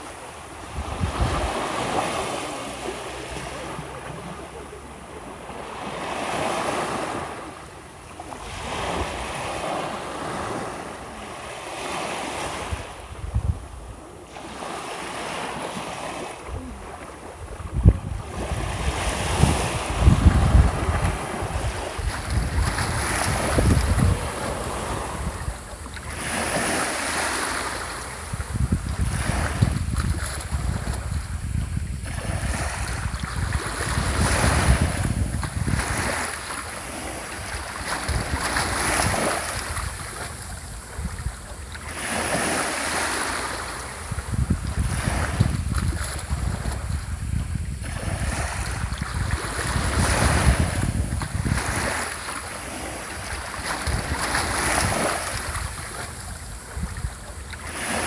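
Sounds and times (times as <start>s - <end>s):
wind rumbling on microphone: 0.0s - 7.6s, 8.2s - 58.0s
sea waves breaking on shore: 0.0s - 58.0s.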